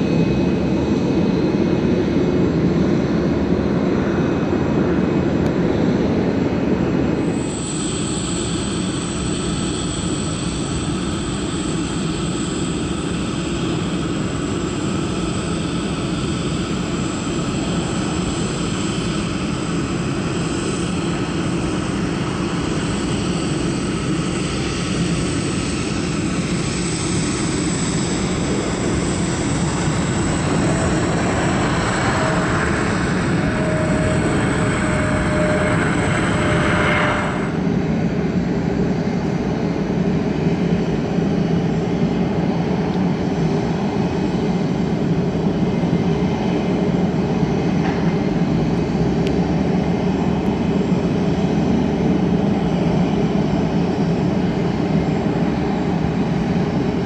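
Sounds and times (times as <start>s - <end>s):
jet engines rumbling with whine: 0.0s - 57.0s.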